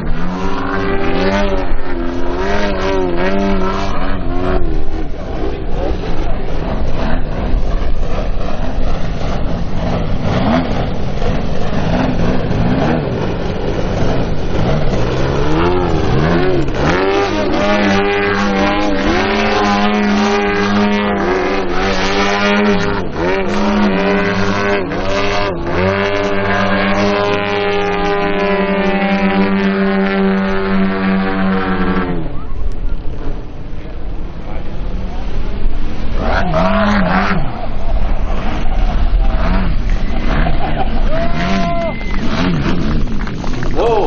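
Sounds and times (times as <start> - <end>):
model plane engines: 0.0 - 44.0.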